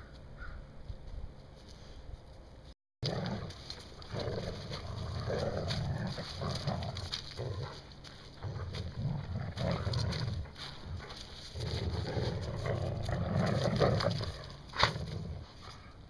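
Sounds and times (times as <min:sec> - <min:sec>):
dogs play-growling: 0:03.0 - 0:16.0.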